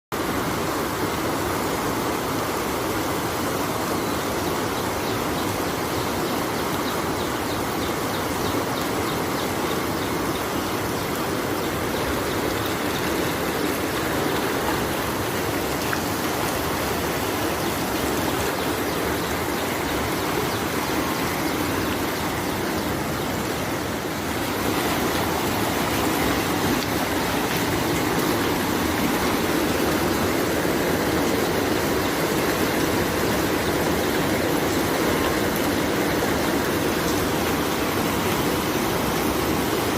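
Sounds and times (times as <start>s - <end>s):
rushing floodwater: 0.2s - 39.9s.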